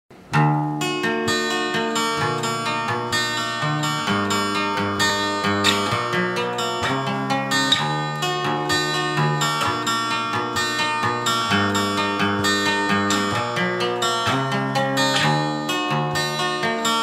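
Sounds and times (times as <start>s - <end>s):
acoustic guitar plucked and strummed: 0.1s - 17.0s.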